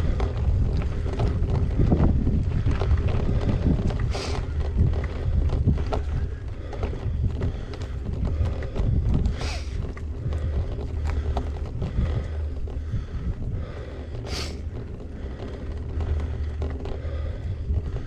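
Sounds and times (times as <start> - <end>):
bike clicks and rattles: 0.0 - 18.0
bike tyres rumbling on gravel: 0.0 - 18.0.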